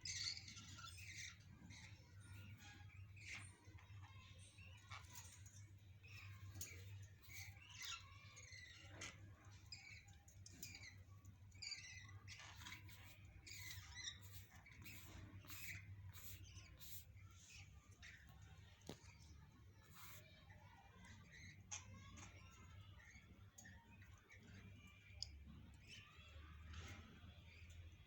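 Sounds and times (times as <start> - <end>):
budgerigars chirping and chattering: 0.0 - 28.0.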